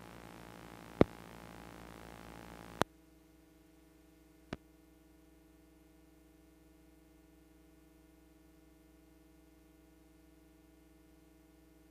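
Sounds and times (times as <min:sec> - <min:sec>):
videotape hum and hiss: 0:00.0 - 0:11.9.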